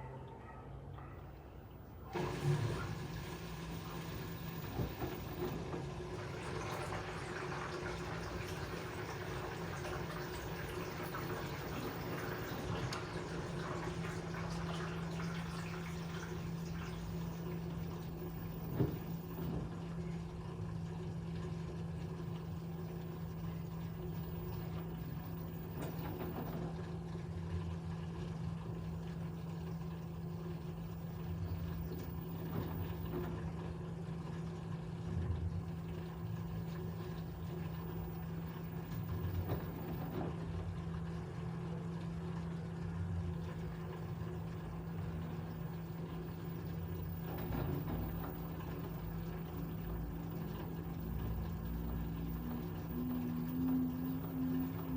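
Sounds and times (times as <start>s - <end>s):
drain pump humming: 0.0s - 54.9s.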